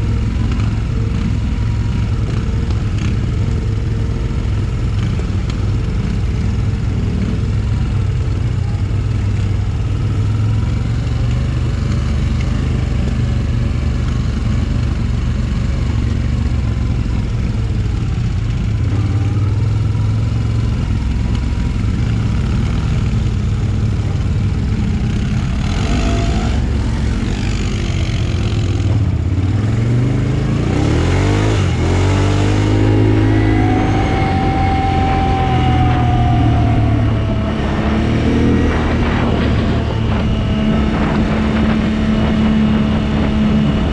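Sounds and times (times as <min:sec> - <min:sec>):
quad bike engine revving: 0:00.0 - 0:43.9.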